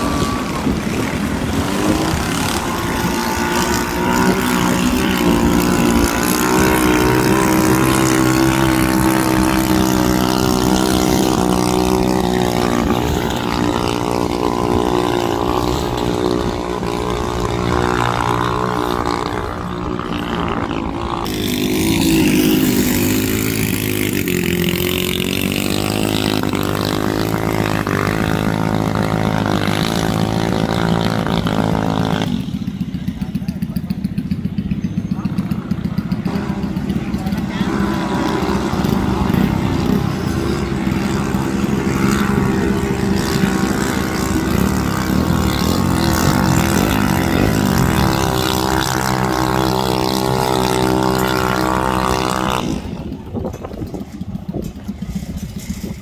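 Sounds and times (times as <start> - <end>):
boat engines droning: 0.0 - 56.0.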